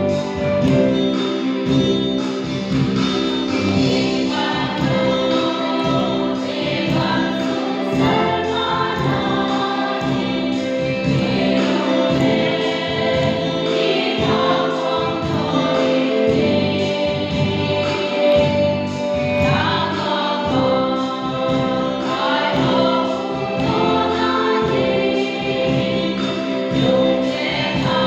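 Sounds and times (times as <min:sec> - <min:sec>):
women's choir singing a hymn: 0:03.5 - 0:28.0.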